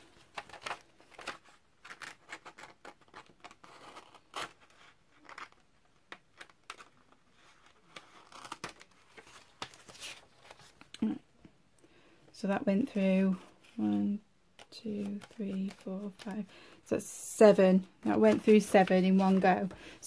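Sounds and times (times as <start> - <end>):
book pages rustling: 0.1 - 10.9, 13.3 - 16.6, 18.0 - 20.0.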